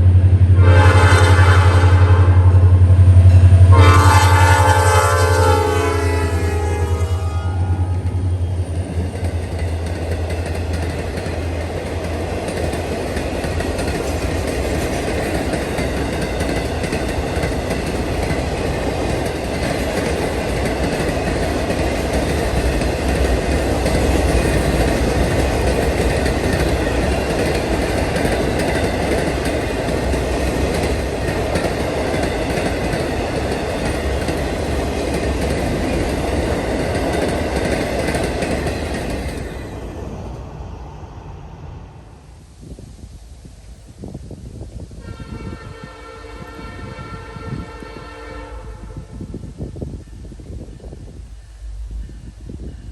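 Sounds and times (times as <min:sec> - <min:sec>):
freight train rumbling past: 0:00.0 - 0:52.9.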